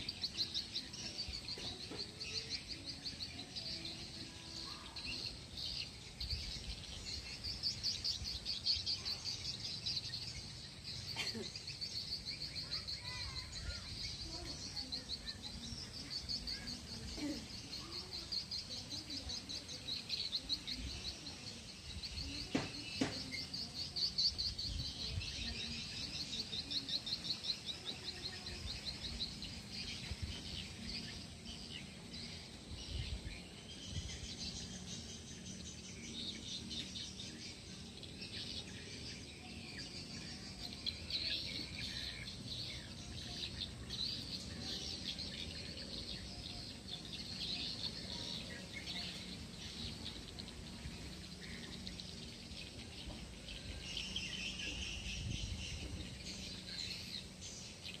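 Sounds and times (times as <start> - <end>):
birds and insects chirping: 0.0 - 58.0.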